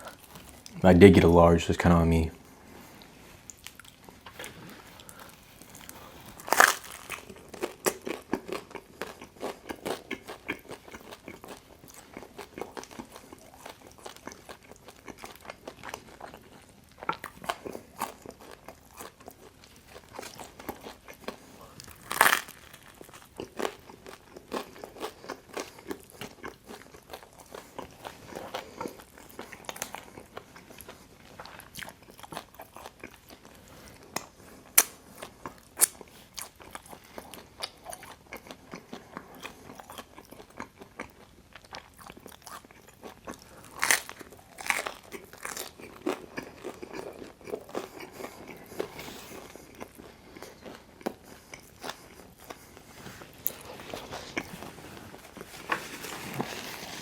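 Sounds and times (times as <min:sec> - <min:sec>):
crunchy chewing of pizza: 0:00.0 - 0:01.0, 0:02.7 - 0:57.0.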